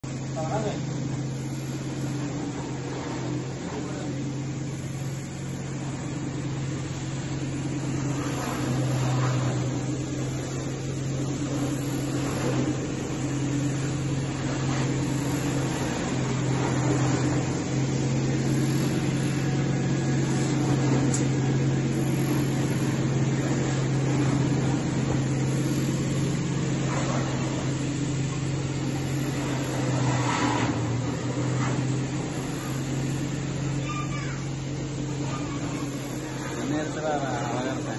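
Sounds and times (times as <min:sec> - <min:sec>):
blower rushing: 0:00.0 - 0:37.9
electric motor hum: 0:00.0 - 0:37.9.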